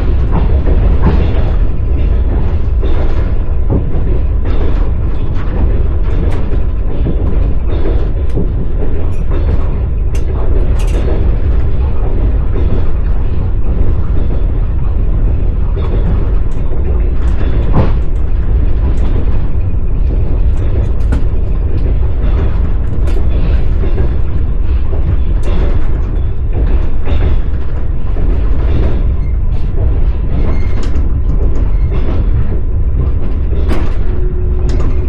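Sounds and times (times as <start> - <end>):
clicks and knocks from track: 0.0 - 35.0
train wheels rumbling: 0.0 - 35.0.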